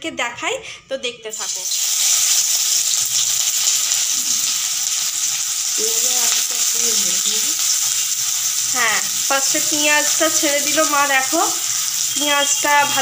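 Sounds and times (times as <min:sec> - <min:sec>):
onion sizzling in hot oil: 0:01.3 - 0:13.0.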